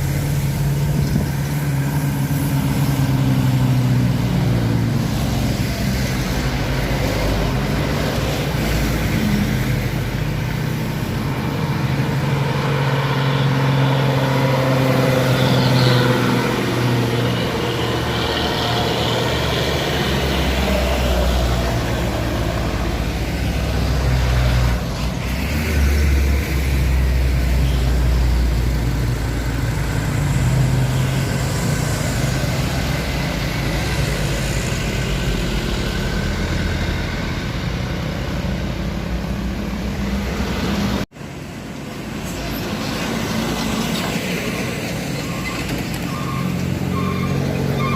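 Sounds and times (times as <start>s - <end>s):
truck engine climbing uphill: 0.0s - 47.9s.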